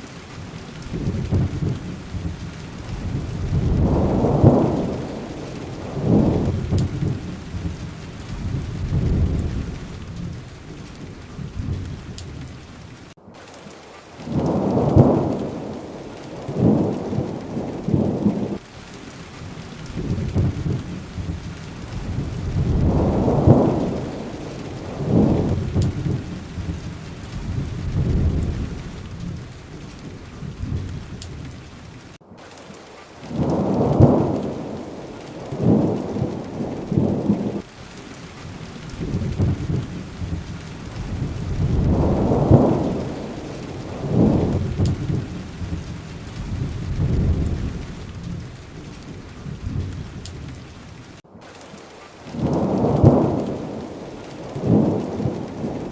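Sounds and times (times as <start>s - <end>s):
steady rain: 0.0s - 55.9s
low rolling thunder: 0.4s - 13.2s, 14.2s - 18.7s, 19.3s - 32.1s, 33.2s - 51.2s, 52.3s - 55.9s.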